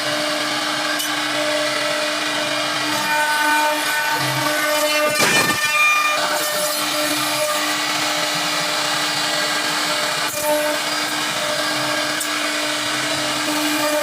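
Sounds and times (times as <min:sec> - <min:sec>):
router spindle whining cutting wood: 0:00.0 - 0:14.0.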